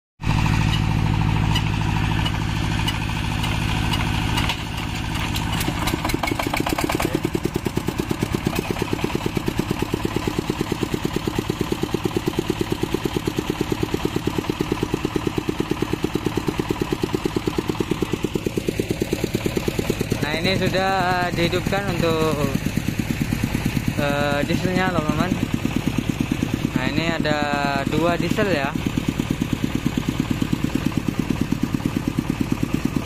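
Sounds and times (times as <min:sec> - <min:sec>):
generator engine chugging idle: 0:00.2 - 0:33.0
steady engine hum: 0:00.2 - 0:33.0
generator engine hand-cranked clattering: 0:00.3 - 0:33.0.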